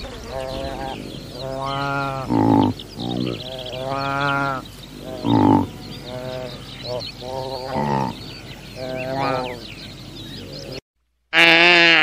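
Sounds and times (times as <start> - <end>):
antelope calling: 0.0 - 10.8.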